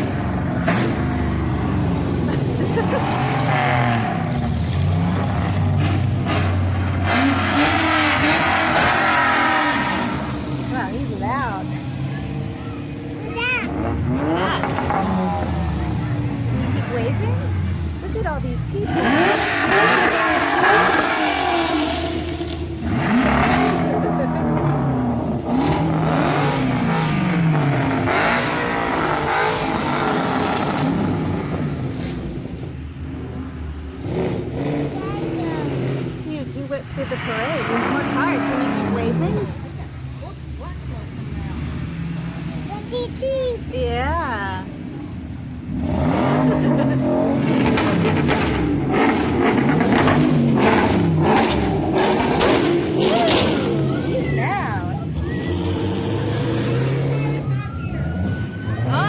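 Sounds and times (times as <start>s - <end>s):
car engines revving past: 0.0s - 59.0s.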